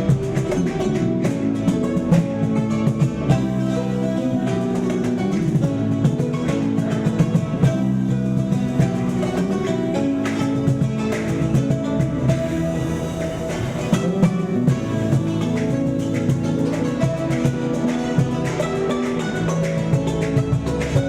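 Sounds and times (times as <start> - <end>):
plucked acoustic guitar music: 0.0 - 21.0.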